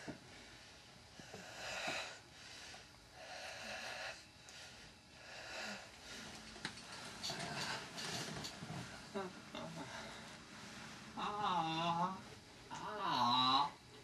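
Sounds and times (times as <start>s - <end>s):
faint heavy breathing: 0.0s - 12.2s.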